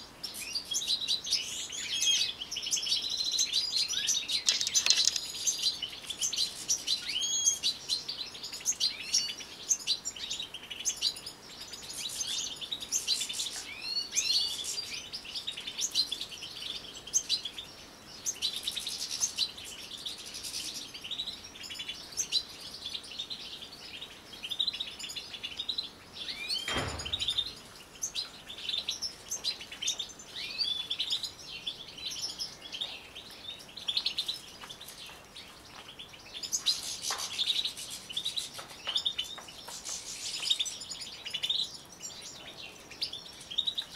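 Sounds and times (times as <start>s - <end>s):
finches twittering and chirping: 0.2s - 43.9s.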